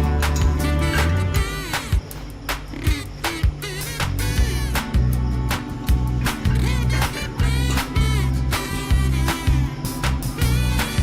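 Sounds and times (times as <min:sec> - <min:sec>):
upbeat funky instrumental music: 0:00.0 - 0:11.0.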